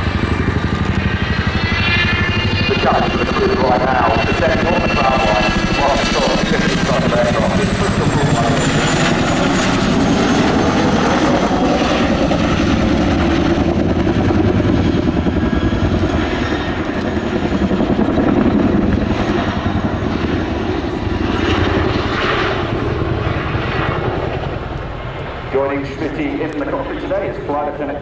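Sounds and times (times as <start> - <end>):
helicopter rotors and turbines: 0.0 - 28.0.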